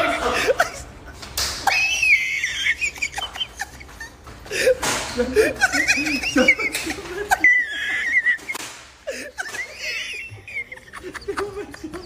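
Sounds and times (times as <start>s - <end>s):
high squealing laugh: 1.6s - 12.0s
low chuckling: 2.2s - 12.0s.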